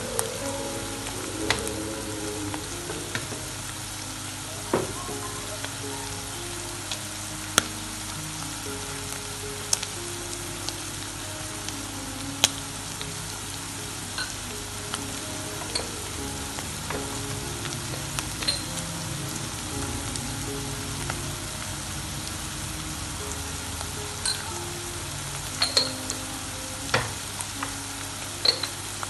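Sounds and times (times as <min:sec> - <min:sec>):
meat and onions sizzling in a pot: 0:00.0 - 0:29.0.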